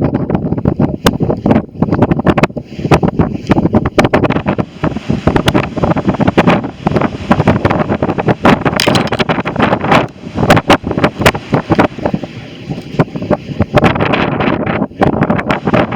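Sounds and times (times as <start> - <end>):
strong wind buffeting microphone: 0.0 - 15.9.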